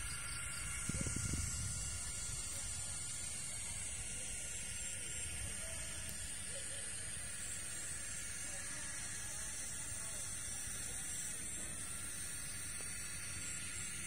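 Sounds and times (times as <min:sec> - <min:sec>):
constant hiss: 0:00.0 - 0:14.0
faint distant voices: 0:00.1 - 0:14.0.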